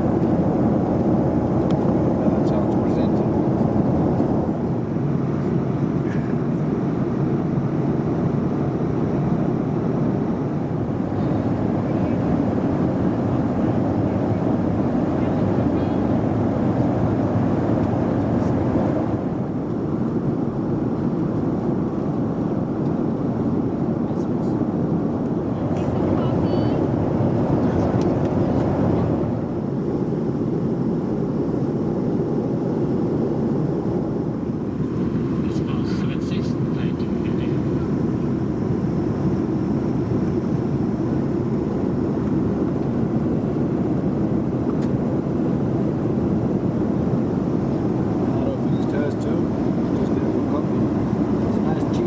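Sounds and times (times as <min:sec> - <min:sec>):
airplane cabin roar: 0:00.0 - 0:52.0.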